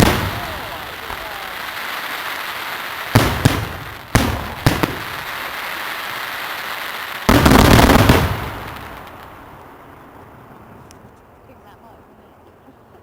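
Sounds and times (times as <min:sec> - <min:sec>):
fireworks exploding: 0:00.0 - 0:10.8.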